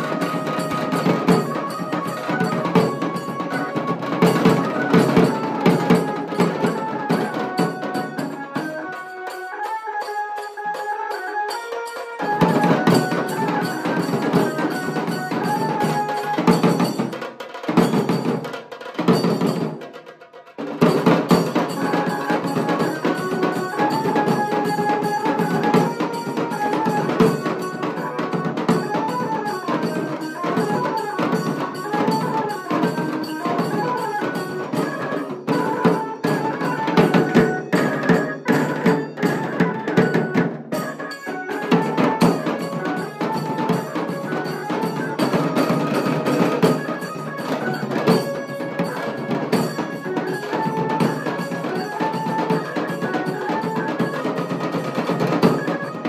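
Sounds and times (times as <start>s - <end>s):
barrel drums in fast rhythm: 0.0s - 9.0s, 11.8s - 56.0s.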